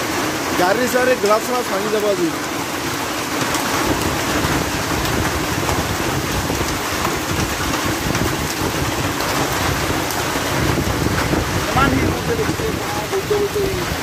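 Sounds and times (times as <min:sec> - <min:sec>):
hail and heavy rain hissing: 0:00.0 - 0:14.0
hailstones ticking: 0:00.0 - 0:14.0.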